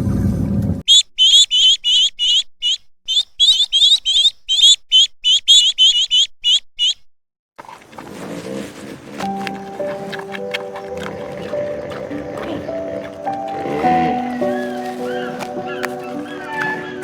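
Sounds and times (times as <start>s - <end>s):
bird chirping: 0.9s - 7.1s, 9.3s - 17.0s.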